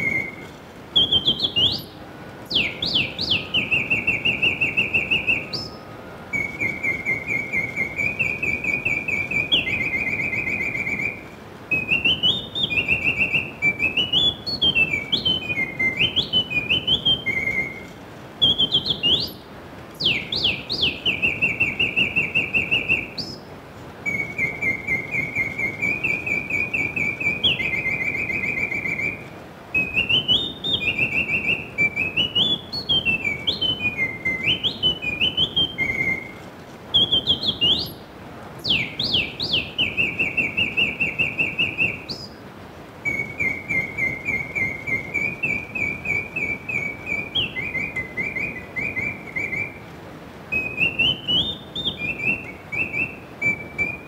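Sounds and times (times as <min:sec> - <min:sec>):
mechanical bird whistling birdsong: 0:00.0 - 0:54.0.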